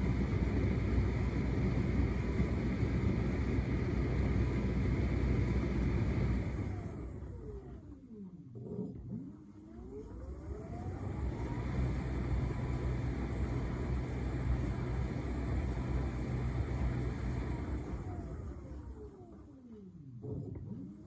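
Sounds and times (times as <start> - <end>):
tumble dryer drum humming: 0.0 - 9.2, 9.9 - 21.0
tumble dryer motor whine: 0.0 - 21.0.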